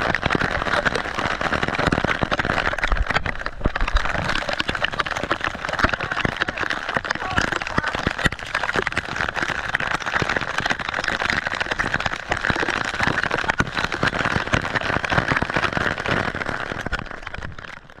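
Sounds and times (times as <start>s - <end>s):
hail pelting sea surface: 0.0s - 18.0s.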